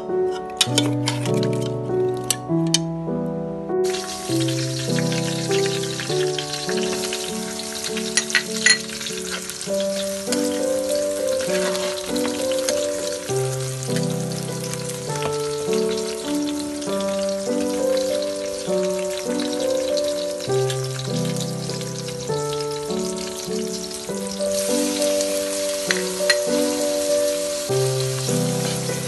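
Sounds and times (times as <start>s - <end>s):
gentle background music: 0.0s - 29.0s
hot oil sizzling: 3.8s - 29.0s.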